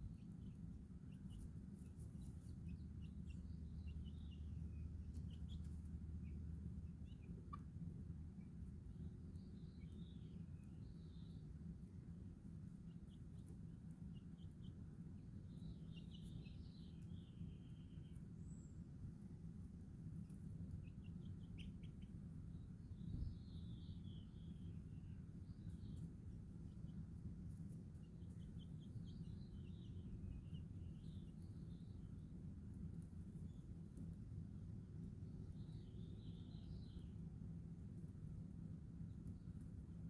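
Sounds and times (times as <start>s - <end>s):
low background rumble: 0.0s - 40.0s
small birds chirping: 0.0s - 40.0s.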